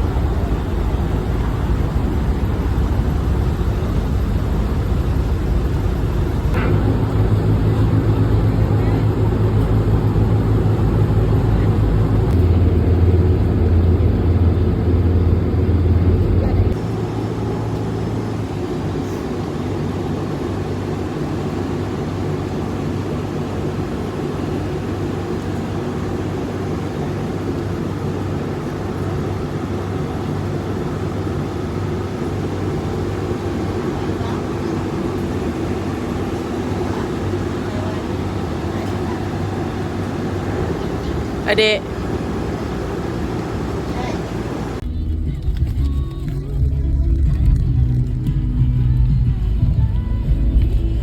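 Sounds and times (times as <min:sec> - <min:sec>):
vehicle engine droning: 0:00.0 - 0:51.0.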